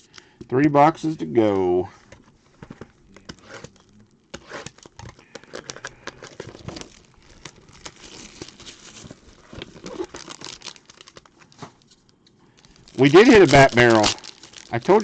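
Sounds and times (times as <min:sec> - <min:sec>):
card packaging rustling and crinkling: 0:01.0 - 0:15.0.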